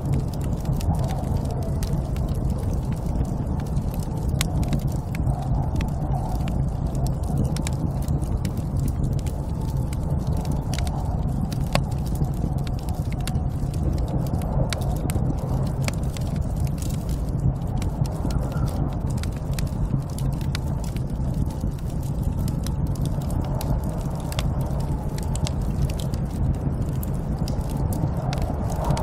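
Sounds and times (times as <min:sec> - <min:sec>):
snowstorm wind rumble: 0:00.0 - 0:29.0.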